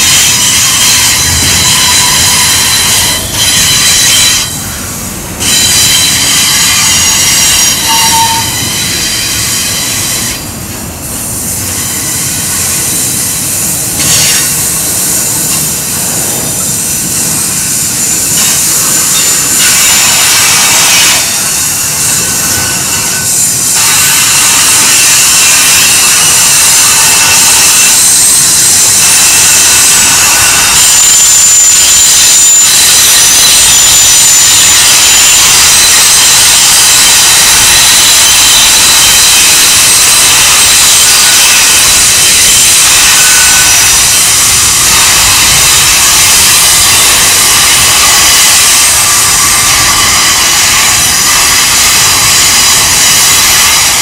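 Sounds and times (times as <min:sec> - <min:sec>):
freight train rumble and clatter: 0:00.0 - 0:54.0
train wheel squeal: 0:00.0 - 0:54.0.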